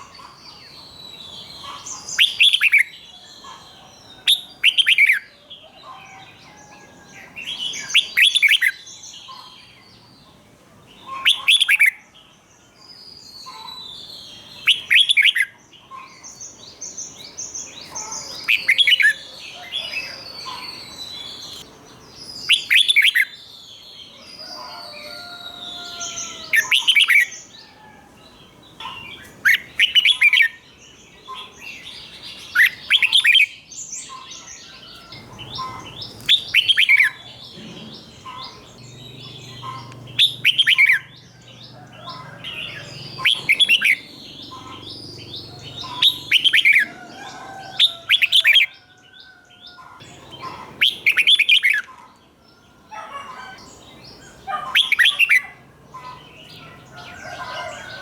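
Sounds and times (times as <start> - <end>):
bird singing song phrases: 0.0 - 58.0
soft bird chirps and twittering: 0.0 - 58.0.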